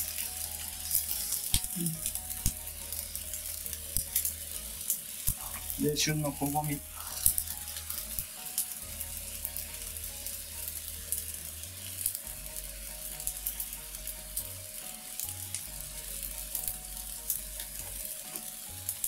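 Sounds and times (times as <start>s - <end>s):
seafood sizzling in a pan: 0.0s - 19.0s.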